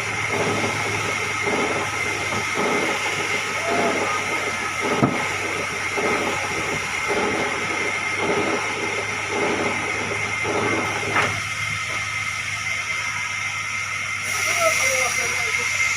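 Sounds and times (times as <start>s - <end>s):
sawmill machinery running: 0.0s - 15.9s.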